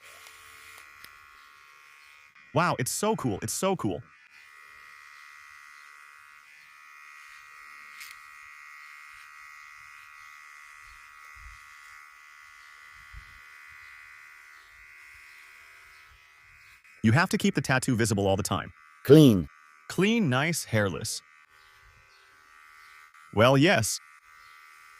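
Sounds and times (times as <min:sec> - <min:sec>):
electric shaver buzzing: 0:00.0 - 0:24.9.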